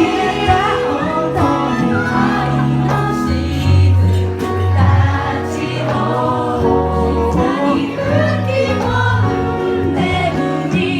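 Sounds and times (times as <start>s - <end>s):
live pop band with bass and guitar: 0.0s - 10.9s.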